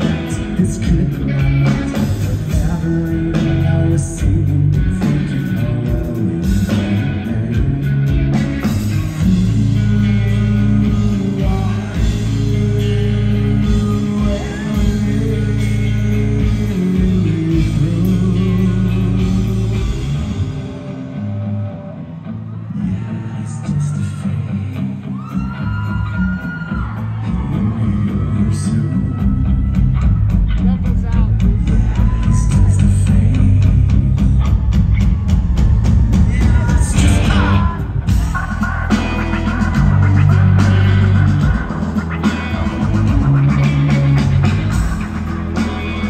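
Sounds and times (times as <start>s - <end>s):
man singing lead vocal: 0.0s - 21.0s, 22.6s - 46.0s
live rock band playing: 0.0s - 46.0s.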